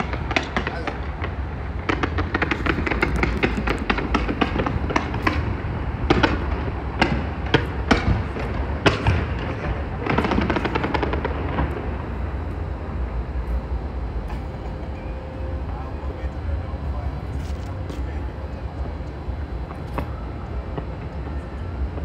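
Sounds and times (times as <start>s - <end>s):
fireworks banging and crackling: 0.0s - 13.6s, 14.3s - 22.0s.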